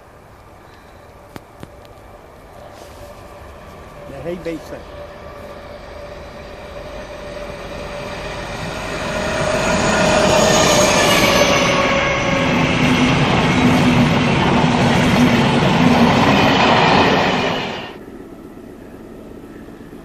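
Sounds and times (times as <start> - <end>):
diesel locomotive passing: 0.0 - 20.0
train coaches clattering by: 1.4 - 18.0.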